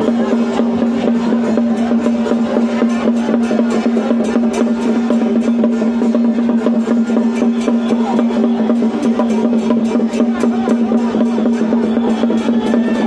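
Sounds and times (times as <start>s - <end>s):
rapid drumming and percussion: 0.0s - 13.0s.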